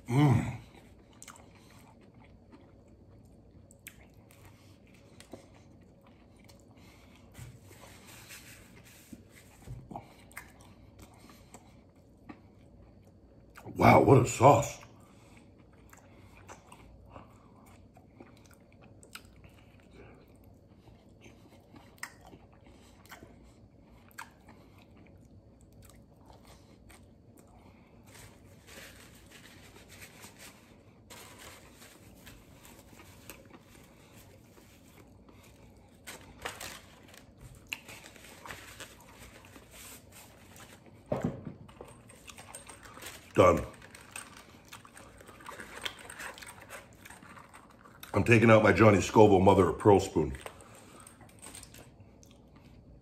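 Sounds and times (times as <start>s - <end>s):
chewing crispy food: 0.5s - 41.1s, 41.7s - 53.0s.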